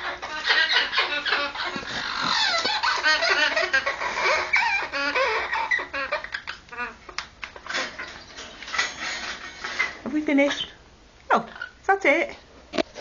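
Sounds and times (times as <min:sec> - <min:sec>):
parrot calling: 0:00.0 - 0:09.0, 0:09.7 - 0:11.9.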